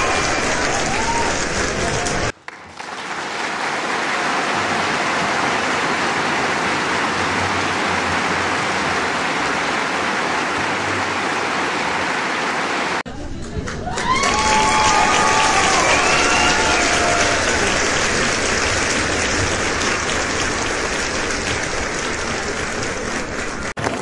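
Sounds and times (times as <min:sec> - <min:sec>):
many hands clapping: 0:00.0 - 0:24.0.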